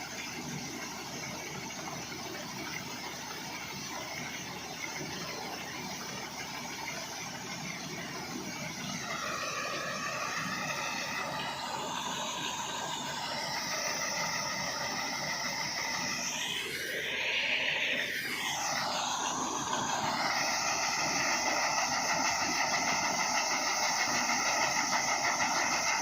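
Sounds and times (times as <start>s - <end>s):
combine harvester running: 0.0s - 26.0s
high multi-tone whine: 0.0s - 26.0s.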